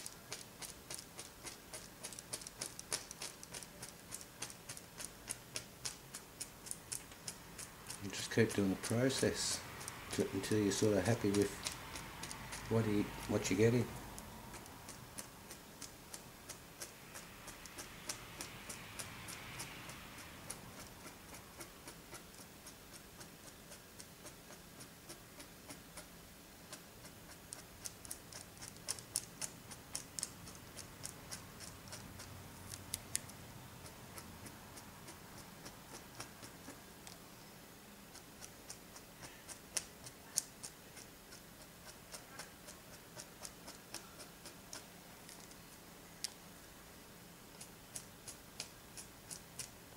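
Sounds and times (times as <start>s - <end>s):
faint steady ticking: 0.0s - 49.9s.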